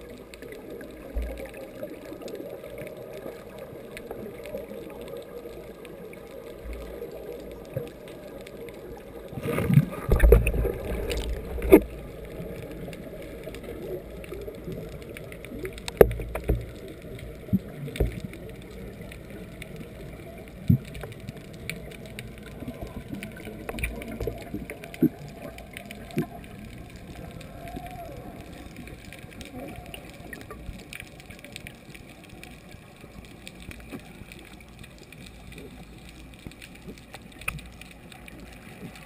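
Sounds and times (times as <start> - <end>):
bubbles gurgling: 0.0 - 39.0
low underwater rumble: 0.0 - 39.0.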